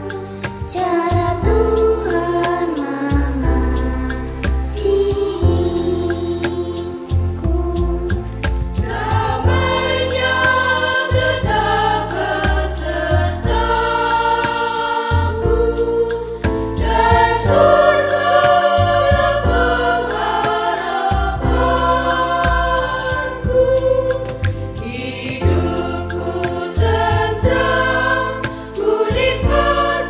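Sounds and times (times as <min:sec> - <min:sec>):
instrumental accompaniment with bass: 0:00.0 - 0:30.0
women's choir singing a hymn: 0:00.0 - 0:30.0.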